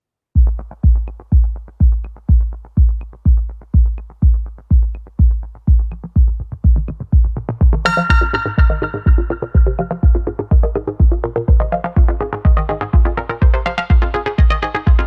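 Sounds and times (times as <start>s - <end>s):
electronic dance music: 0.4s - 15.0s.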